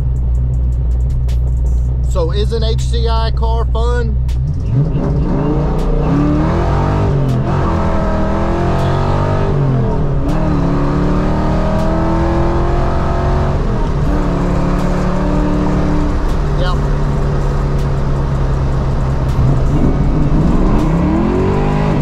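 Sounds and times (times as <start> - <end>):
car engine accelerating hard: 4.2 - 22.0.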